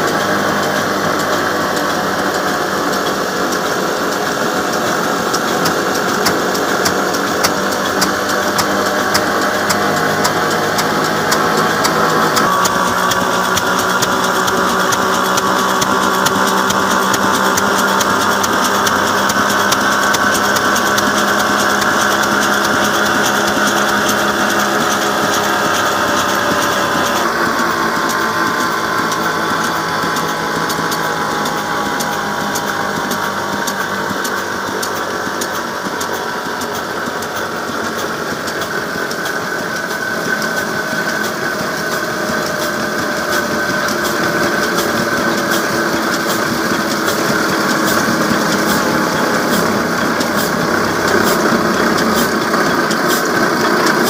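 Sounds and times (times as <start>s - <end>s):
diesel engine knocking rhythmically: 0.0s - 54.0s.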